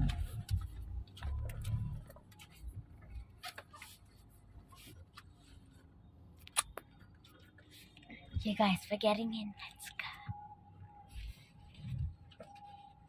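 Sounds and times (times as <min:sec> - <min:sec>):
low car hum: 0:00.0 - 0:13.0.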